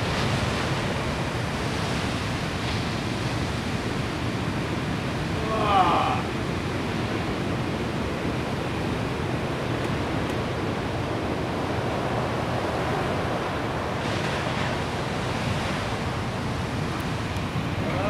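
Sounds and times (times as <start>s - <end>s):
ocean waves crashing: 0.0s - 18.0s.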